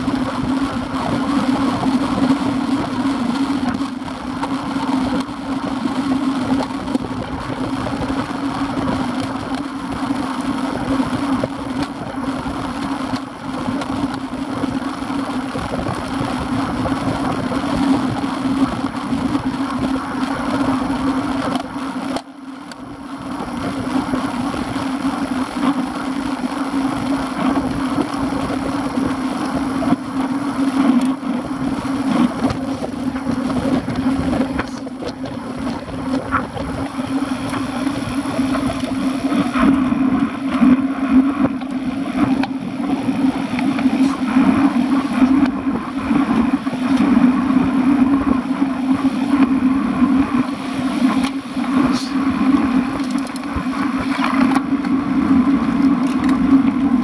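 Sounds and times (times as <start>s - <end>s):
constant low drone: 0.0s - 57.0s
wind and road noise: 0.0s - 57.0s.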